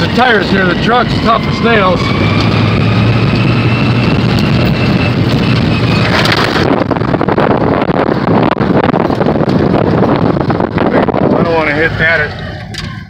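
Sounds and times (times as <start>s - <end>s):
truck banging and rattling: 0.0s - 13.0s
truck engine pulling hard: 0.0s - 13.0s
wind noise: 0.0s - 13.0s.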